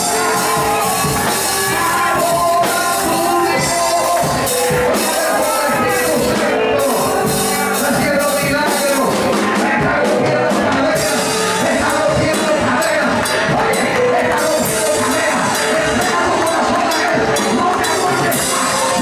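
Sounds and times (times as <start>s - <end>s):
drum kit: 0.0s - 19.0s
electric guitar: 0.0s - 19.0s
electronic keyboard: 0.0s - 19.0s
man singing into microphone: 0.0s - 19.0s.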